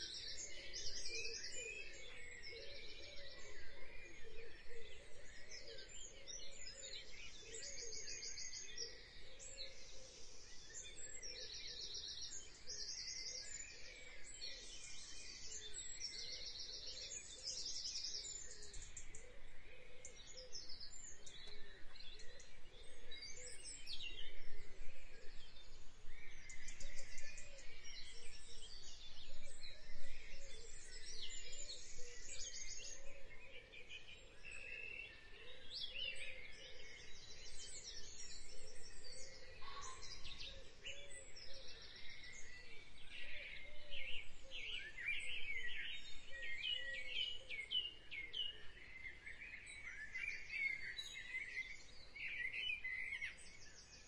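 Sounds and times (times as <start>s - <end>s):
dense birdsong chorus: 0.0s - 54.0s.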